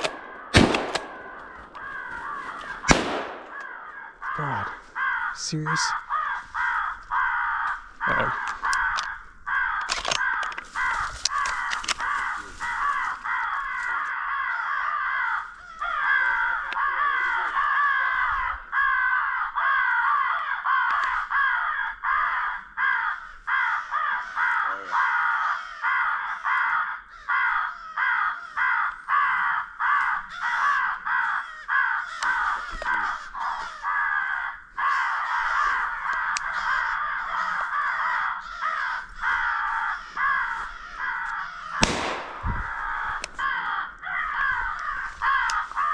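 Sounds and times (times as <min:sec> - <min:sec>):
crows cawing: 0:00.0 - 0:45.9.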